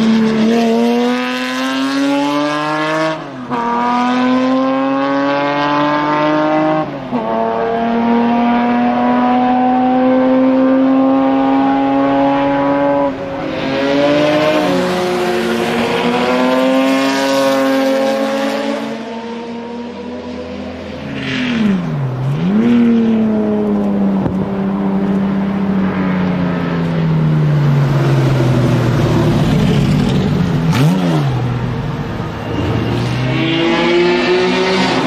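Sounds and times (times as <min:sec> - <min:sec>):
race car engine revving past: 0:00.0 - 0:23.7, 0:27.8 - 0:35.0.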